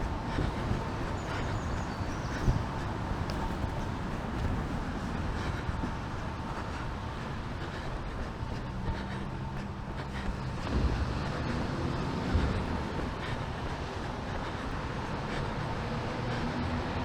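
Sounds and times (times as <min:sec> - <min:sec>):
city traffic: 0:00.0 - 0:17.0
engine hum: 0:00.0 - 0:17.0.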